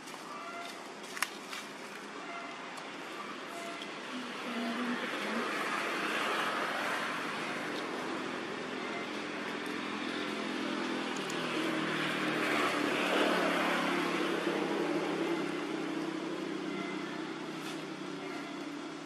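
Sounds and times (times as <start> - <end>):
passing vehicle engine hum: 2.9 - 19.0.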